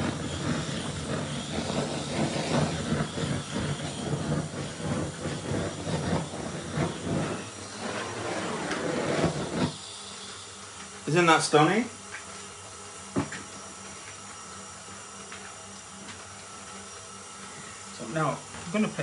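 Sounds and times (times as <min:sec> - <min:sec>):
blowtorch flame hissing: 0:00.0 - 0:19.0.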